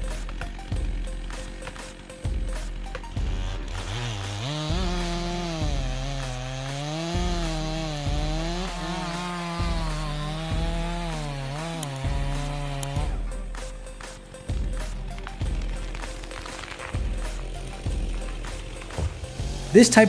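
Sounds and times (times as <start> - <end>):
chainsaw cutting wood: 0.0 - 20.0
music with low beat: 0.0 - 20.0.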